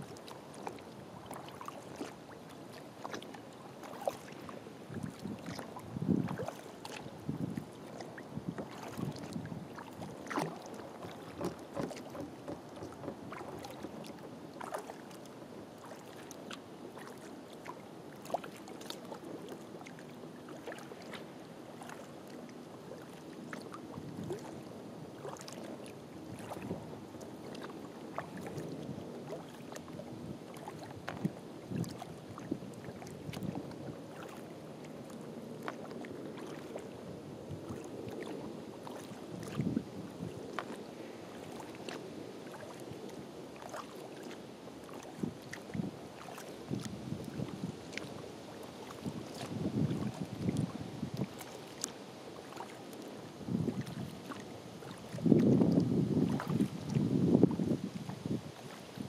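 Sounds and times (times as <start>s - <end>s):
kayak paddle splashing: 0.0s - 59.0s
water lapping at hull: 0.0s - 59.0s.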